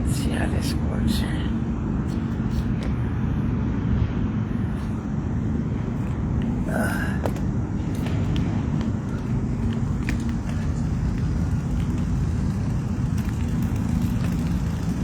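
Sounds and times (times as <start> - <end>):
bicycle rolling noise: 0.0 - 15.0
wind rumble on microphone: 0.0 - 15.0.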